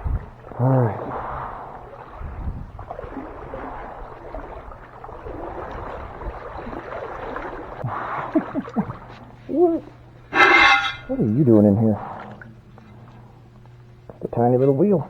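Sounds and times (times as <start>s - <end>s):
wading through water: 0.0s - 15.0s.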